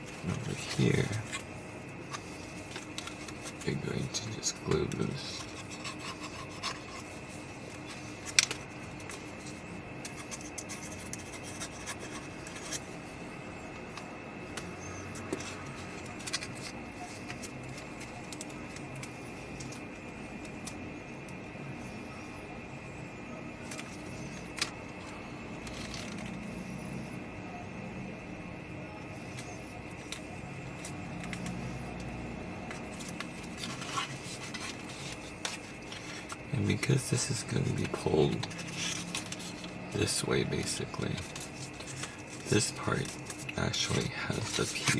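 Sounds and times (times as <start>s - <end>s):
paper rubbing and ticking: 0.0s - 21.4s, 23.6s - 26.5s, 29.2s - 44.9s
steady low hum: 0.0s - 44.9s.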